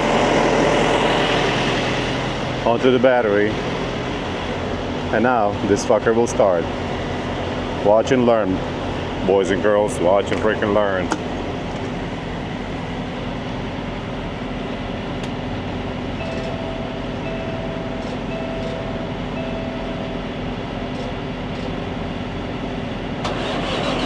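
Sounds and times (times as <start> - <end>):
refrigeration unit engine drone: 0.0 - 24.0.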